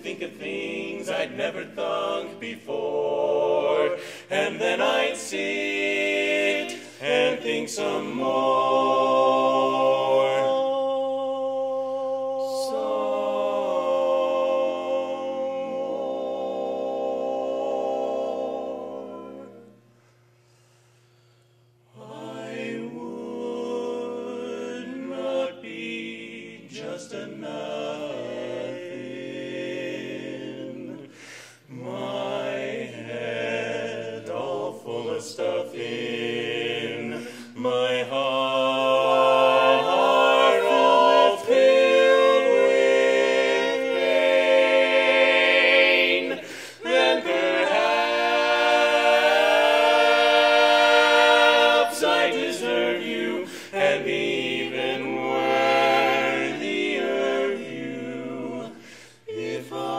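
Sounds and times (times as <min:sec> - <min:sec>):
male quartet singing a cappella: 0:00.0 - 0:19.8, 0:21.9 - 0:59.9.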